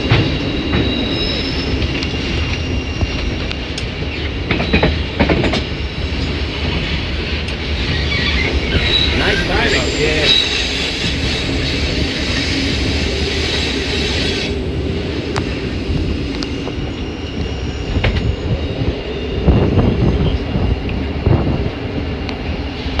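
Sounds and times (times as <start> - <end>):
high wheel squeal: 0.0 - 23.0
train wheels rumbling on rails: 0.0 - 23.0.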